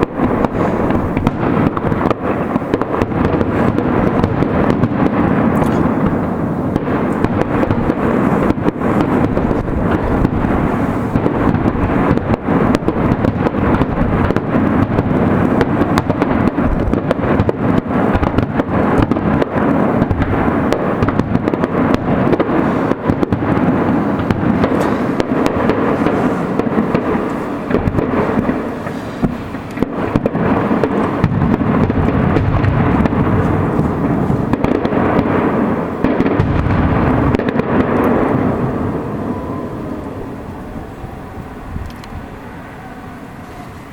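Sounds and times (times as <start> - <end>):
fireworks bangs and crackling: 0.0 - 43.9.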